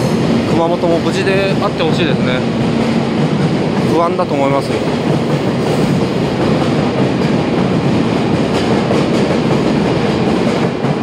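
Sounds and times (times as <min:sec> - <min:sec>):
steady train noise: 0:00.0 - 0:11.0.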